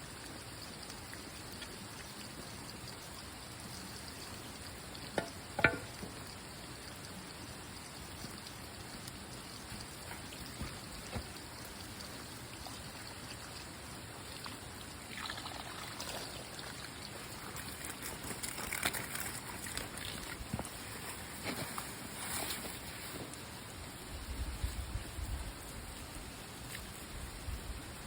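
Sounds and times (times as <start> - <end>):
hiss of water: 0.0 - 28.0.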